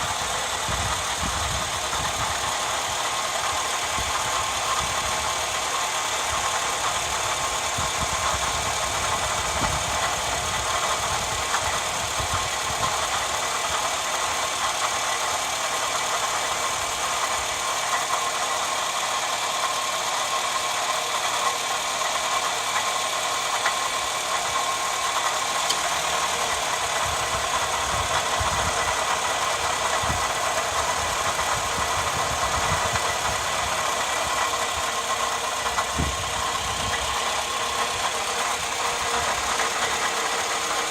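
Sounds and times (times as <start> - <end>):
engine idling: 0.0 - 40.9
steady belt tensioner whine: 0.0 - 40.9.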